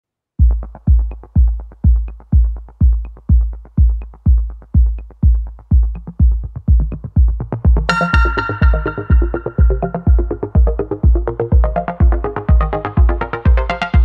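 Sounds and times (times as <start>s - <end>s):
electronic music beat: 0.4s - 14.0s.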